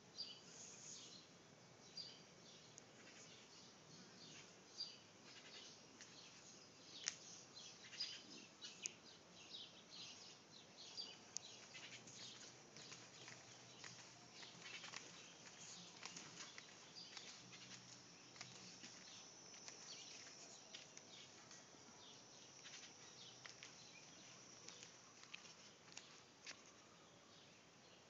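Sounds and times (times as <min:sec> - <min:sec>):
birds chirping: 0:00.2 - 0:27.0.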